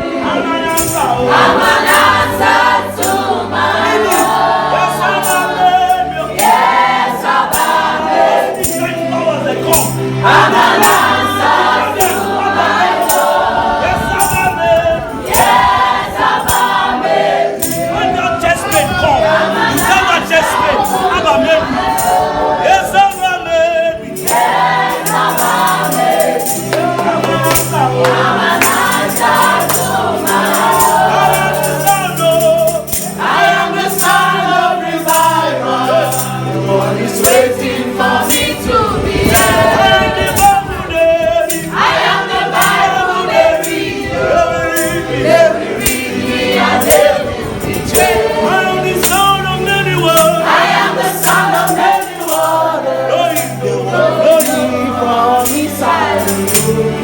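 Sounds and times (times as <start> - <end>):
choir singing gospel: 0.0 - 57.0
tambourine beating: 0.6 - 57.0.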